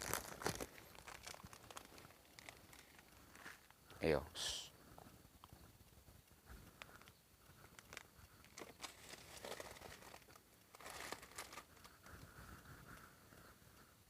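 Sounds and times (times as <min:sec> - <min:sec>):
faint rustling and crinkling: 0:00.0 - 0:14.0.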